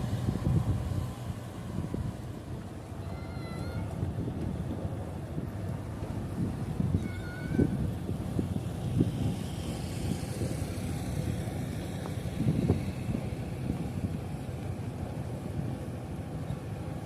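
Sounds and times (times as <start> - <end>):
diesel engine rumbling: 0.0 - 17.0
wind buffeting microphone: 0.0 - 17.0.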